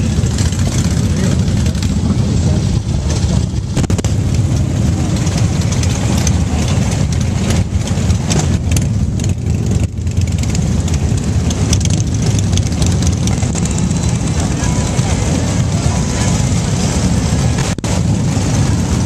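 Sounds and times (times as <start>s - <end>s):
motorcycle engines idling: 0.0s - 19.0s.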